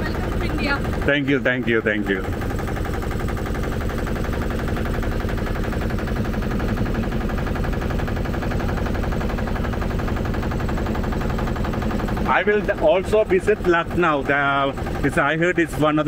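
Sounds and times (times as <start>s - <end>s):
motorboat engine chugging: 0.0s - 16.0s.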